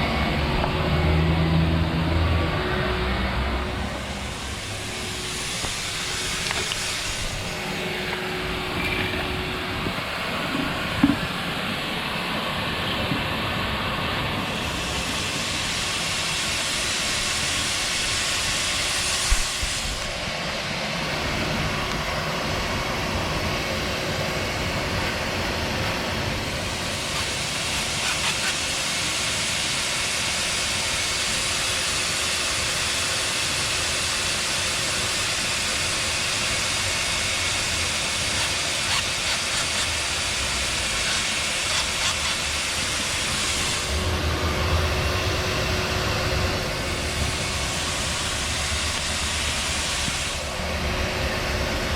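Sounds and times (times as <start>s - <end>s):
shop vac blowing air: 0.0s - 51.9s.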